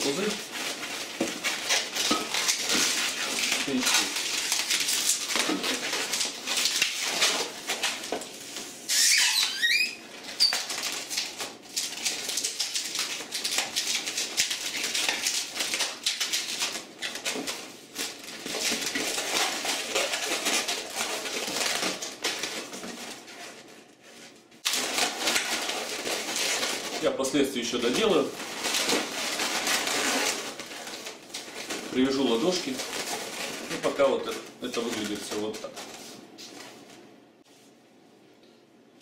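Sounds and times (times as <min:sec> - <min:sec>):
balloons rubbing and squeaking: 0:00.0 - 0:36.3.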